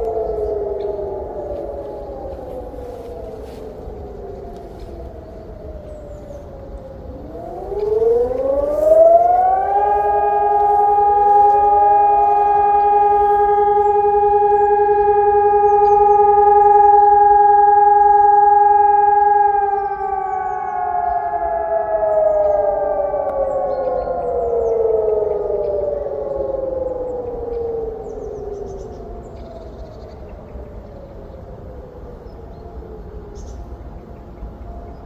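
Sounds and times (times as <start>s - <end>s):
electronic sirens rising and falling: 0.0s - 35.0s.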